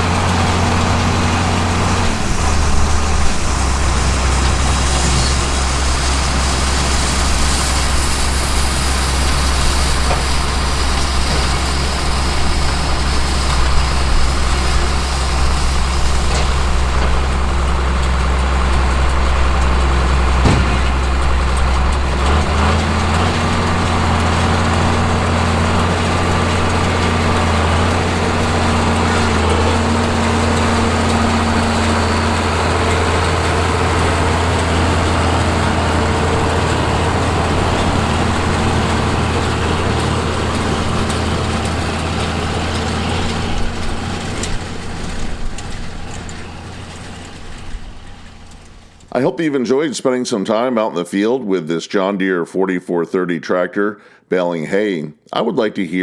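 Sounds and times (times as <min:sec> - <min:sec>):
tractor diesel engine running: 0:00.0 - 0:50.6.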